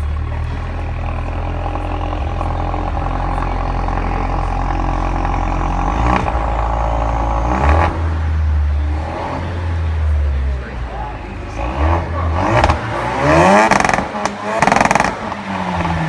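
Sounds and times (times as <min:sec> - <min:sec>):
car engine revving: 0:00.0 - 0:16.0
exhaust crack: 0:00.0 - 0:16.0.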